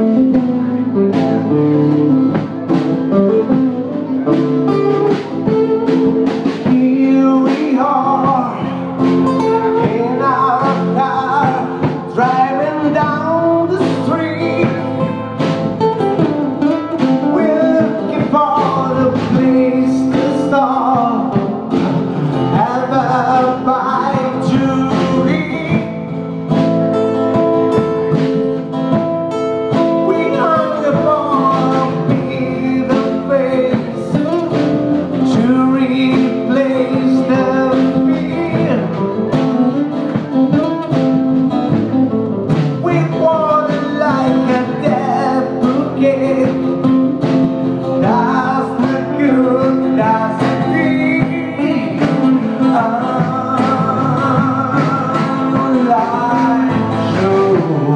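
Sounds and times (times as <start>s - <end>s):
acoustic guitars strumming: 0.0s - 57.9s
drum kit: 0.0s - 57.9s
man singing into a microphone: 0.0s - 57.9s.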